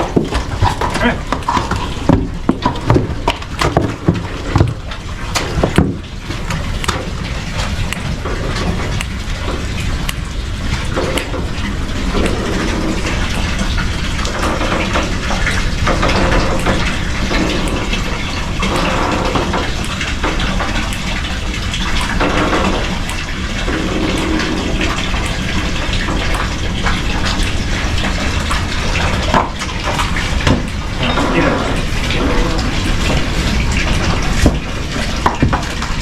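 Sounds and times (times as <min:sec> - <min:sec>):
water gushing into trough: 0:00.0 - 0:36.0.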